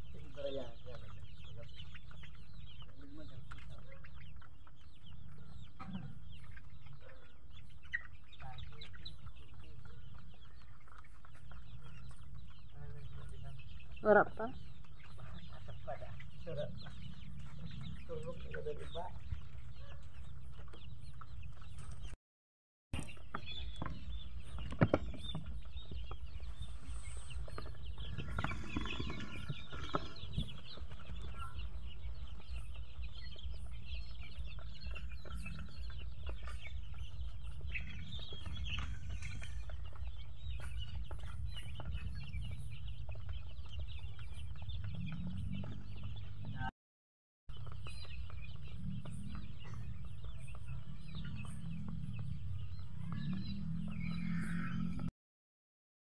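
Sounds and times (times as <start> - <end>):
chickens cheeping and clucking: 0.0 - 22.2, 23.0 - 46.7, 47.5 - 55.1.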